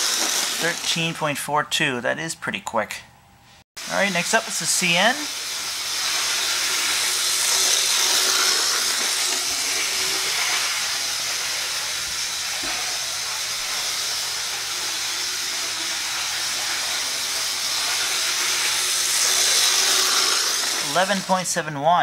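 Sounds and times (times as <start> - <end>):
model train motor whirring: 0.0 - 1.2, 3.8 - 21.4.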